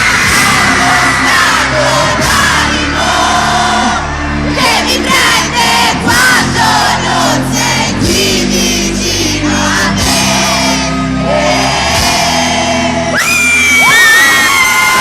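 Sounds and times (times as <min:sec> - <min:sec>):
person singing: 0:00.0 - 0:13.5
crowd singing along: 0:00.0 - 0:13.7
pop band playing: 0:00.0 - 0:15.0.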